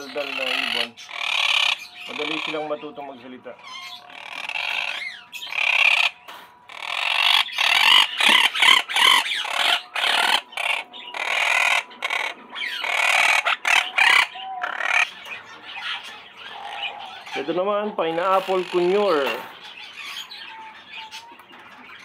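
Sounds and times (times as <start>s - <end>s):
parakeets calling: 0.0s - 22.0s.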